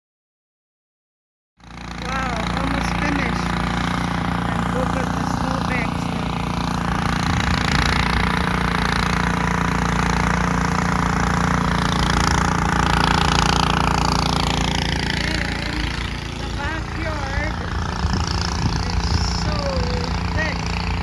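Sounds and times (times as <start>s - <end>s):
snowblower engine drone: 1.6s - 21.0s.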